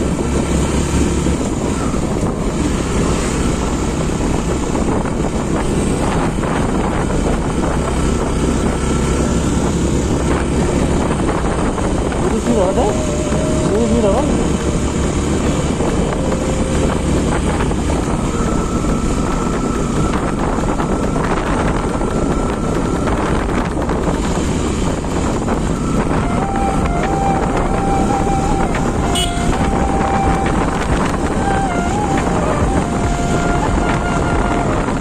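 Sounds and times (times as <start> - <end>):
motorcycle engine: 0.0 - 35.0
wind rushing on microphone: 0.0 - 35.0.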